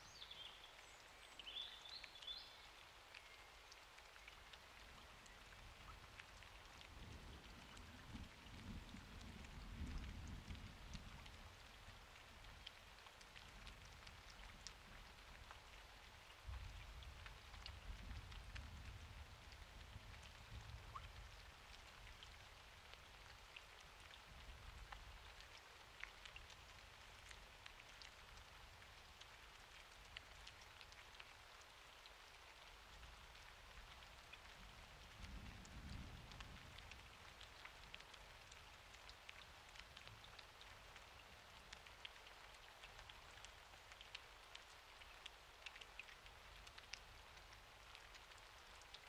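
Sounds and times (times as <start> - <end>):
faint rain: 0.0 - 49.0
raindrops ticking on surfaces: 0.0 - 49.0.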